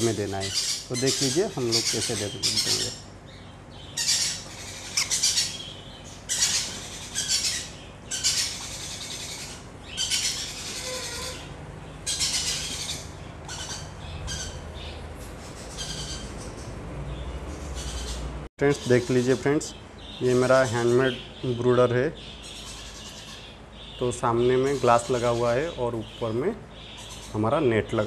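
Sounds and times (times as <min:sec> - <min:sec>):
parrot chick squawking: 0:00.0 - 0:16.8, 0:17.6 - 0:21.4, 0:22.2 - 0:25.9.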